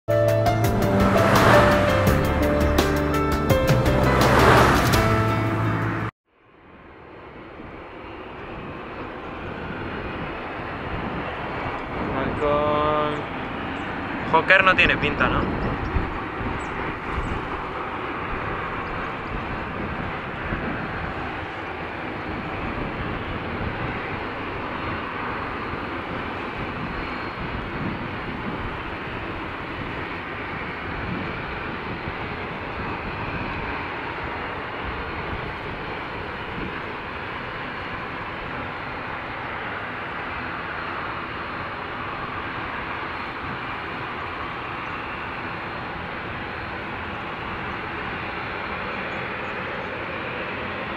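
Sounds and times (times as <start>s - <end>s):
jet engines running: 6.7s - 50.9s.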